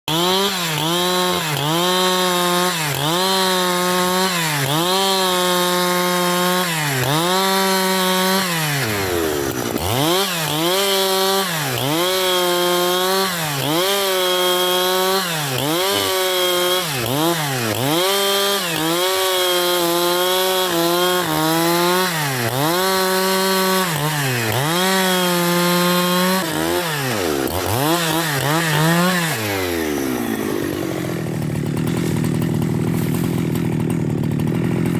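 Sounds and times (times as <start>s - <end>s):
chainsaw revving: 0.0s - 34.9s.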